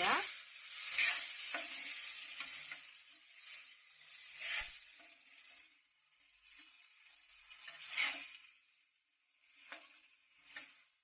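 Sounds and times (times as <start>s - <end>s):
berries sizzling in hot oil: 0.0s - 11.0s.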